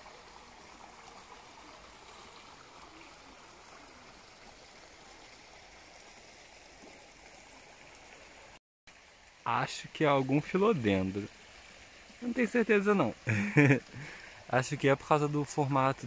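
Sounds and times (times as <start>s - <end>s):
stream running over rocks: 0.0s - 16.0s.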